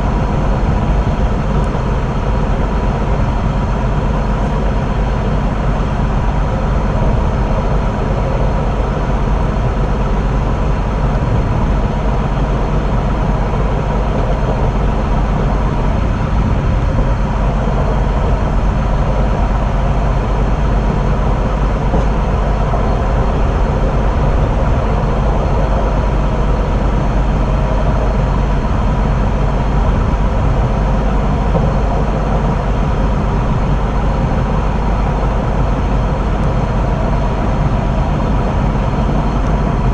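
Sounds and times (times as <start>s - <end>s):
rail vehicle rumble: 0.0s - 39.9s.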